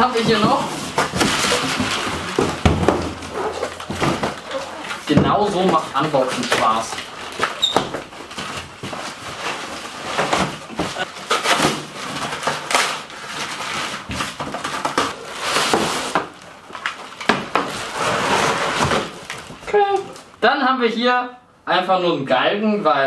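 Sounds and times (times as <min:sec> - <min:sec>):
cardboard ripping: 0:00.0 - 0:20.2
plastic wrap crinkling: 0:00.0 - 0:20.3.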